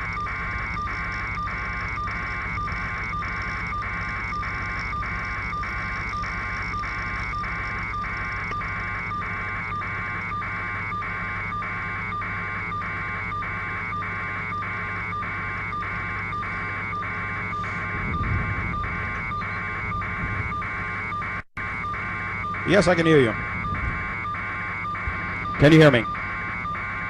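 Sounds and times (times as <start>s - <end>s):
helicopter drone: 0.0s - 27.0s
two-tone electronic buzzing beeps: 0.0s - 27.0s.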